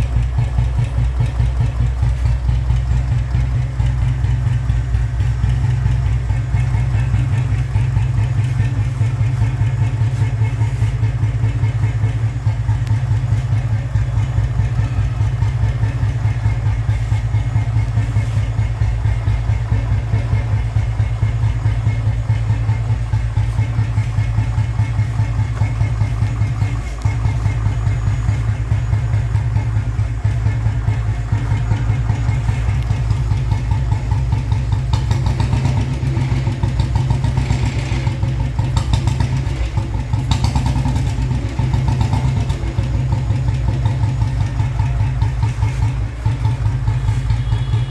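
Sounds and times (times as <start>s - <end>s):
motorcycle engine idling: 0.0s - 47.9s.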